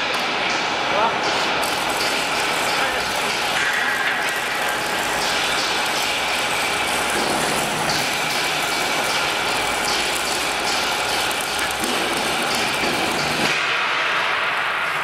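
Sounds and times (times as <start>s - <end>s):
machinery humming and hissing: 0.0s - 15.0s.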